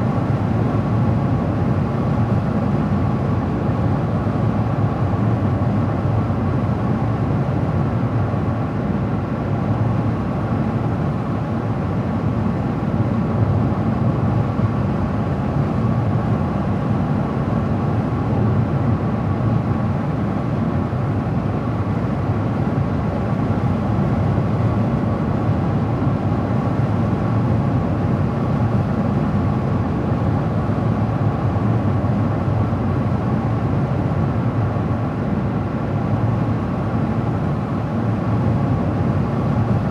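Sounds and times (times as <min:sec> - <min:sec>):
low engine hum: 0:00.0 - 0:39.9.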